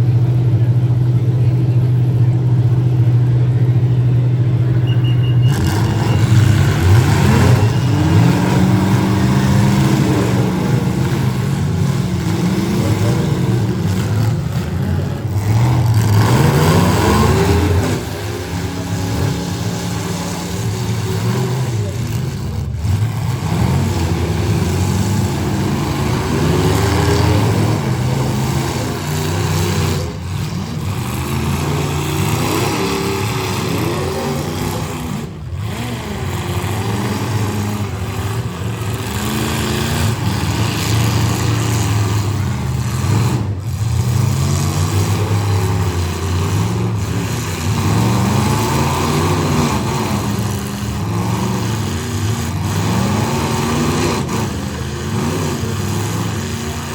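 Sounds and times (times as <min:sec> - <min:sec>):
car engines revving: 0:00.0 - 0:56.9.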